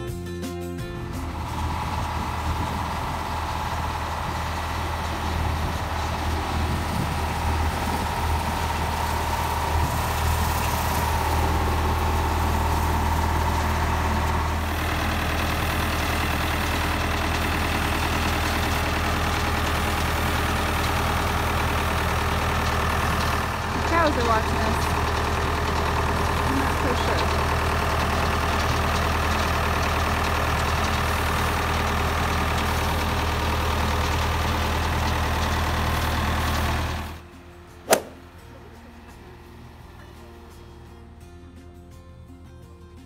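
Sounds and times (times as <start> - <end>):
tractor diesel engine running: 0.0 - 41.6.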